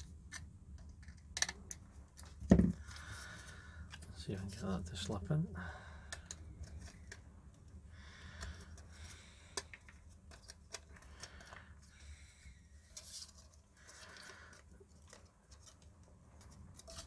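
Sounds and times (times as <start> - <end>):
plastic parts clicking and rubbing: 0.0 - 4.6, 6.1 - 17.0.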